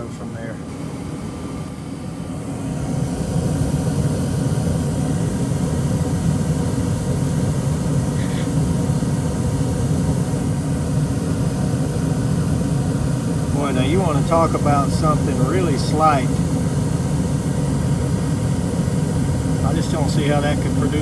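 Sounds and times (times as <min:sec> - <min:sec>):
gas furnace burners roaring: 0:00.0 - 0:21.0.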